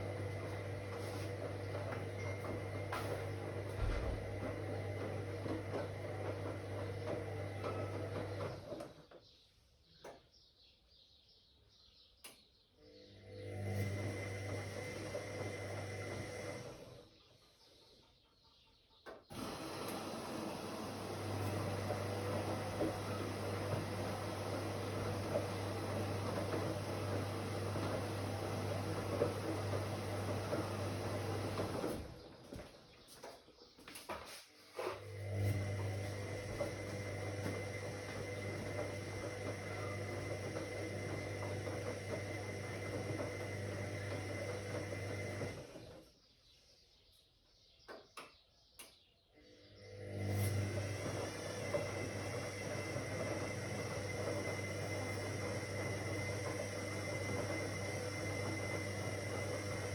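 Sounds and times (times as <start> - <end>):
washing machine humming: 0.0 - 9.2, 12.8 - 17.2, 19.3 - 33.4, 35.0 - 46.1, 49.4 - 59.9.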